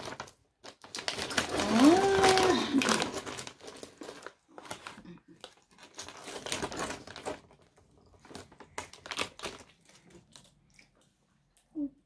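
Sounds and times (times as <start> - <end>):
foil snack bag crinkling: 0.0 - 11.0.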